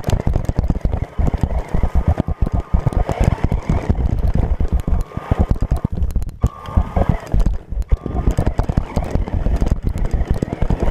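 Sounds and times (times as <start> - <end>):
electric motor whine: 0.0 - 10.9.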